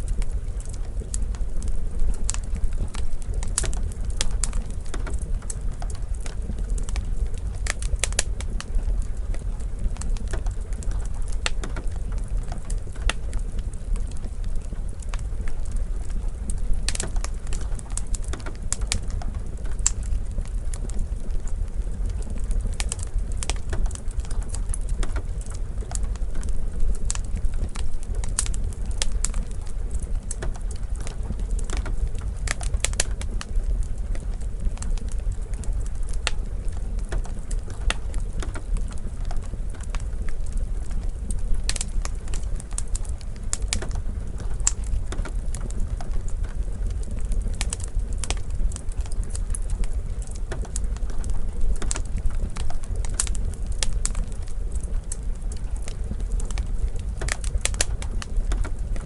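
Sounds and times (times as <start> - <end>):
rain falling: 0.0 - 59.0
wood fire crackling: 0.0 - 59.0.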